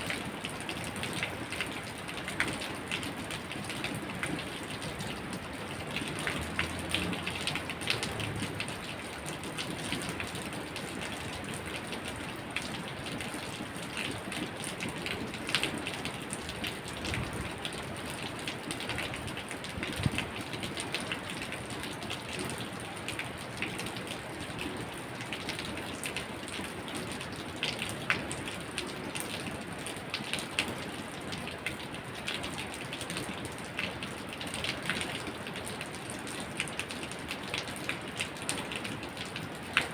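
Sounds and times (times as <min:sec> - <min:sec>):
rain falling: 0:00.0 - 0:39.9
raindrops ticking on a surface: 0:00.0 - 0:39.9.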